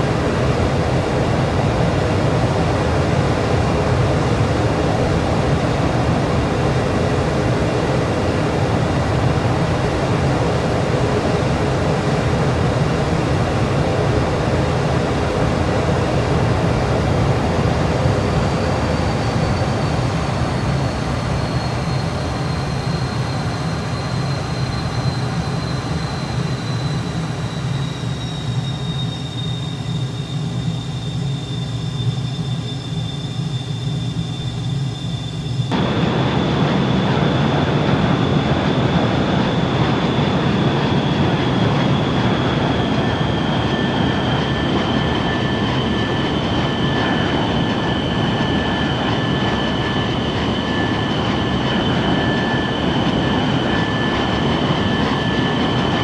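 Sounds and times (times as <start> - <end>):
aircraft turbine engines whining: 0.0 - 56.0.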